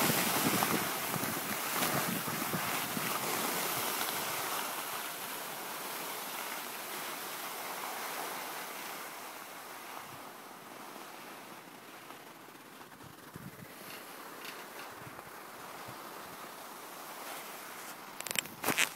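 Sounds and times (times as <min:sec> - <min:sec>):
skis sliding over snow: 0:00.0 - 0:18.9.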